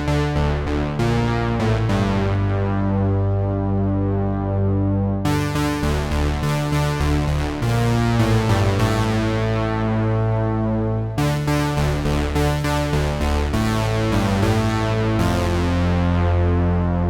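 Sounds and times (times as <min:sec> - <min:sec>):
analog synthesizer bass and chords: 0:00.0 - 0:17.0.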